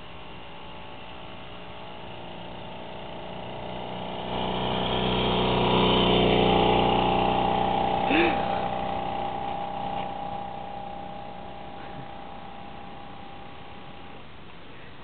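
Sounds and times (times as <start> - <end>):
moped engine passing by: 0.0 - 14.2.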